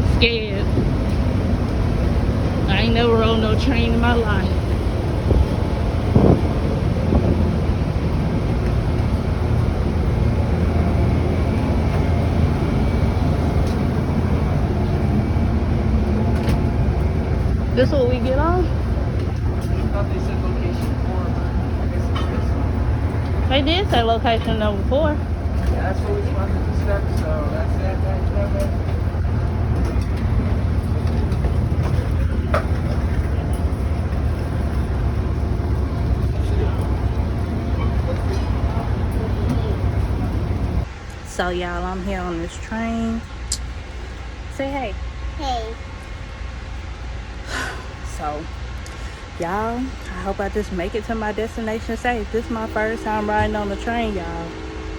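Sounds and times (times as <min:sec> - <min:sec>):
low vehicle rumble: 0:00.0 - 0:54.9.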